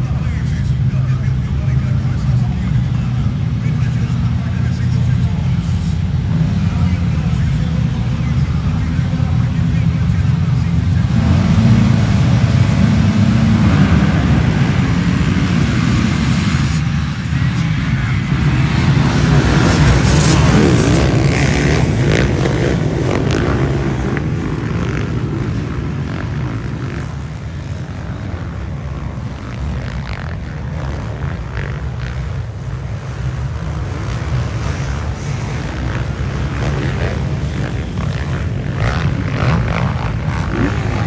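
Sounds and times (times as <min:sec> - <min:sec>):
motocross motorcycles racing: 0:00.0 - 0:41.0.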